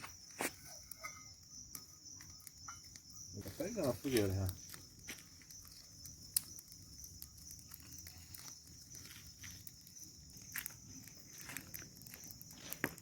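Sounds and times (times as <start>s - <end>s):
bonfire crackling and popping: 0.0s - 13.0s
insects chirring: 0.0s - 13.0s.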